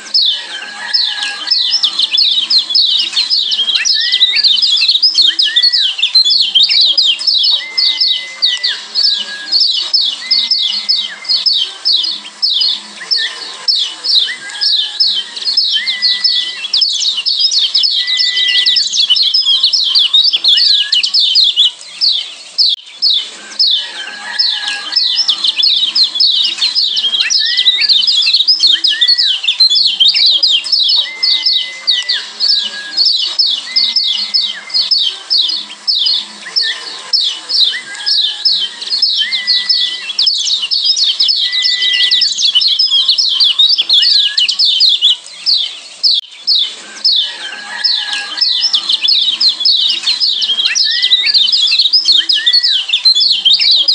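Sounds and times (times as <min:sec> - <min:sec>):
bird chirping: 0:00.0 - 0:53.9
bird whistled notes: 0:00.0 - 0:53.9.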